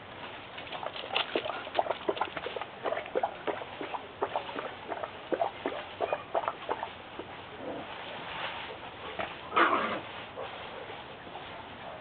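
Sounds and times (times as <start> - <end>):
paws and claws scrabbling: 0.2 - 11.1
puppy play noises: 0.6 - 12.0.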